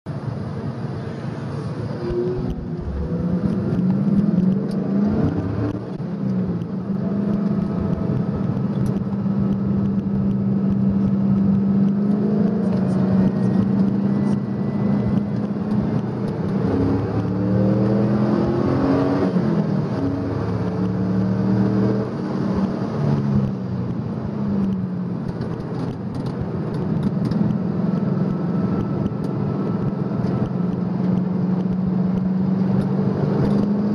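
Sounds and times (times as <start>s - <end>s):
car engine under hard driving: 0.1s - 33.9s.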